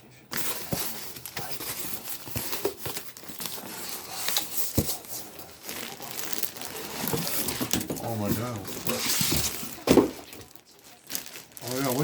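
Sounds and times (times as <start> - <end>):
wrapping paper rustling and tearing: 0.3 - 12.0.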